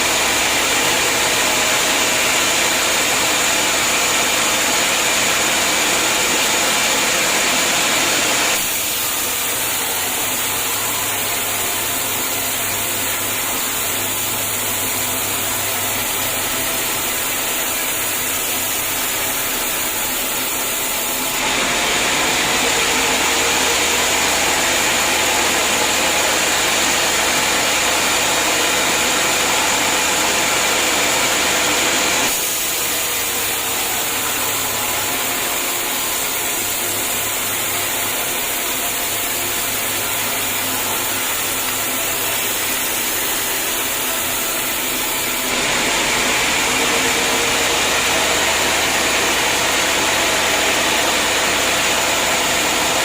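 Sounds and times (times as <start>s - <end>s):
sawmill saw cutting wood: 0.0s - 53.0s.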